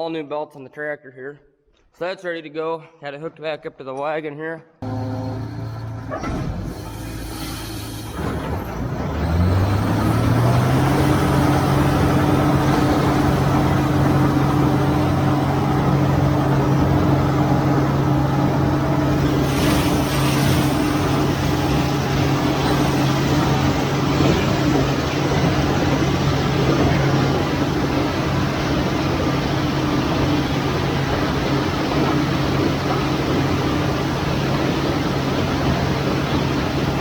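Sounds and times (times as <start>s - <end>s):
tractor engine running: 4.8s - 37.0s.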